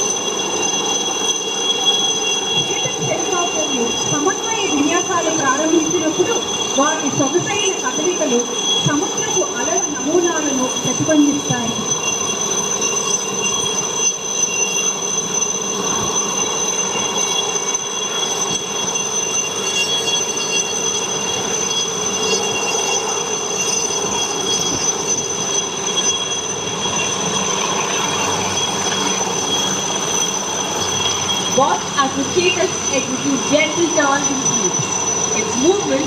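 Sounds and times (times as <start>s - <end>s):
helicopter engine whine: 0.0s - 36.0s
rushing rotor noise: 0.0s - 36.0s.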